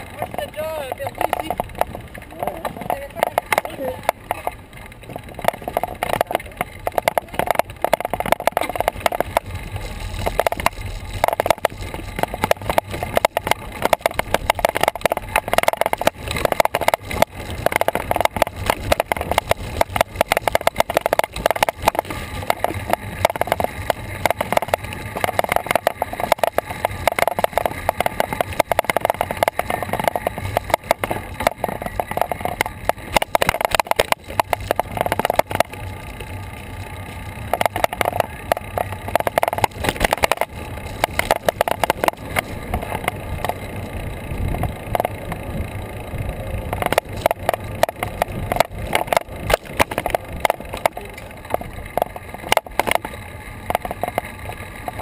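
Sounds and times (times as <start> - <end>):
bicycle rattling on paved path: 0.0 - 55.0.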